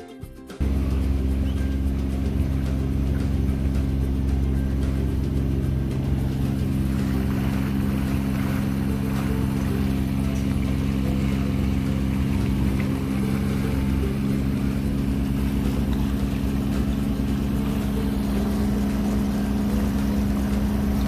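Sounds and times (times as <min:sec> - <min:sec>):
boat engine droning: 0:00.6 - 0:21.0.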